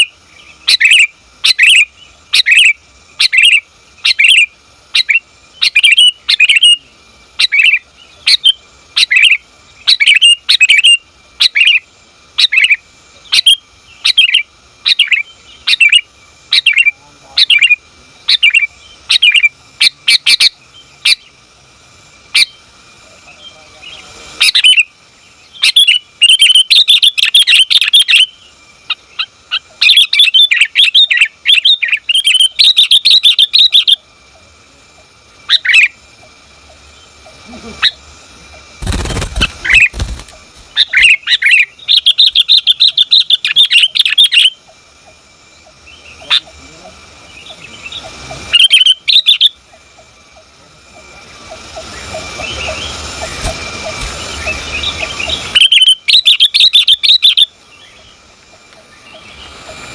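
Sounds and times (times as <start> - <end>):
bird calling and chattering: 0.0 - 21.3, 23.4 - 34.0, 36.7 - 50.2, 50.9 - 59.9.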